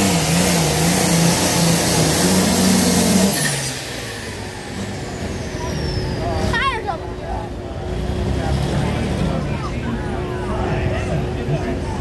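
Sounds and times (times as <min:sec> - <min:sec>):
tractor diesel engine revving: 0:00.0 - 0:11.9.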